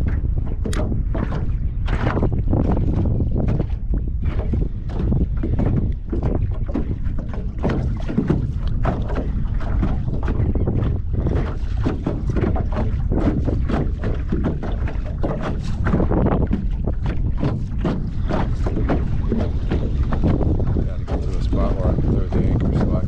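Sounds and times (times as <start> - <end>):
water slapping boat hull: 0.0 - 23.0
wind buffeting microphone: 0.0 - 23.0.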